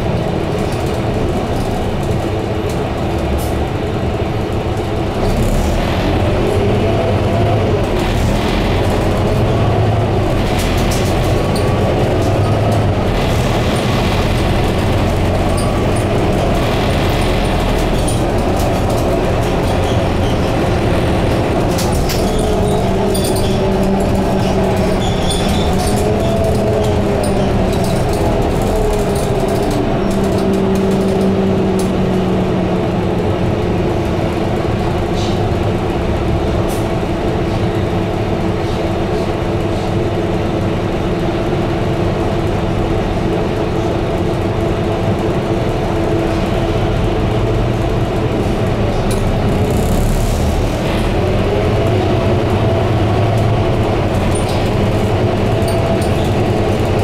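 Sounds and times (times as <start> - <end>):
bus engine running: 0.0 - 57.0
road rumble: 0.0 - 57.0
rising drivetrain whine: 0.1 - 57.0.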